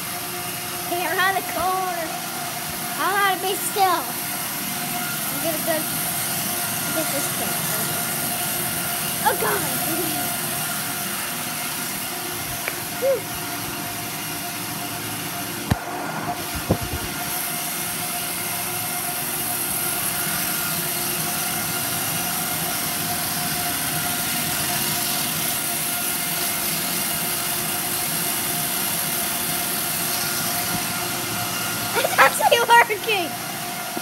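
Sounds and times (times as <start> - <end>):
treadmill motor whine: 0.0 - 34.0.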